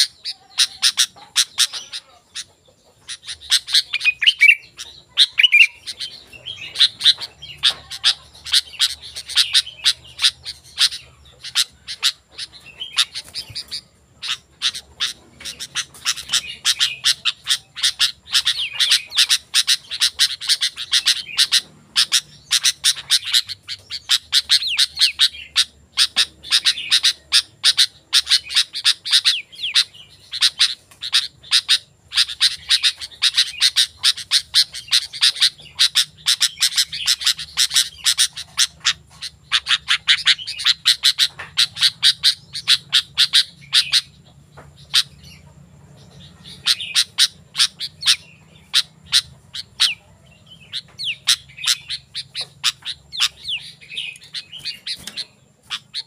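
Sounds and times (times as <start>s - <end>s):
bird chirping quickly: 0.0s - 56.0s.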